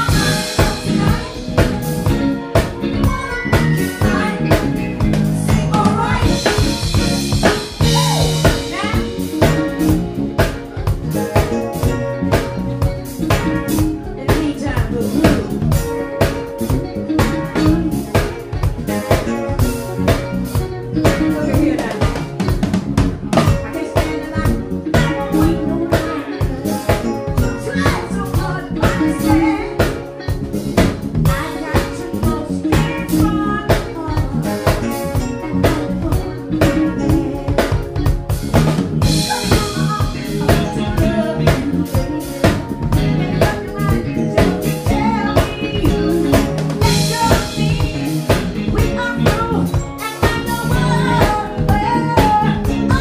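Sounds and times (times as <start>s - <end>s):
woman singing into microphone: 0.0s - 22.6s, 23.4s - 30.4s, 31.2s - 38.2s, 39.0s - 53.0s
drum kit beat: 0.0s - 53.0s
electric bass: 0.0s - 53.0s.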